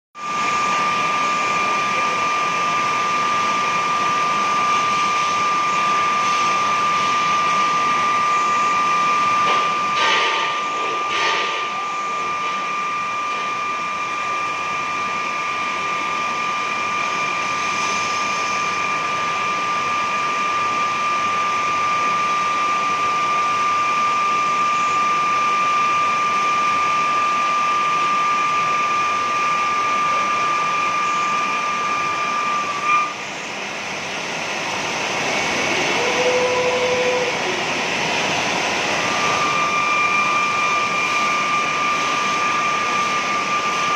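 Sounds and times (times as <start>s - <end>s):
glass grinding machine whine: 0.2s - 43.9s.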